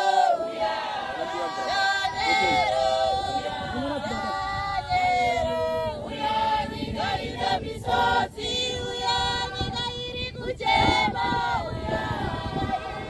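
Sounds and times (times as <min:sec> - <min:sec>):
congregation singing: 0:00.0 - 0:13.0.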